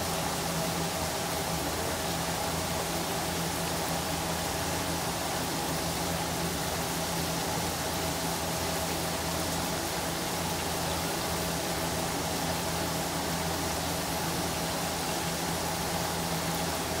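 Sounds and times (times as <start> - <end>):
fish deep-frying sizzle: 0.0 - 17.0.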